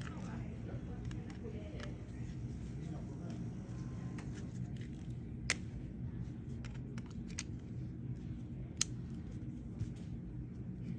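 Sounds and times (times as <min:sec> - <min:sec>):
low background hum: 0:00.0 - 0:10.9.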